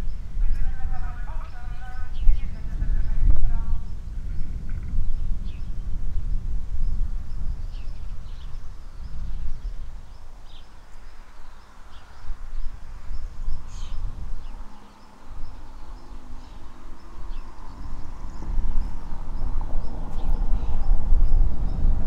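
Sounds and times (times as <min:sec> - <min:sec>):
low gusty rumble: 0:00.0 - 0:22.0
small birds chirping: 0:00.0 - 0:22.0.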